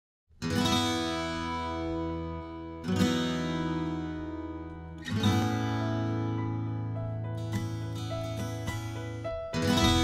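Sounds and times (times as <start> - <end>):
acoustic guitar strumming: 0.4 - 10.0.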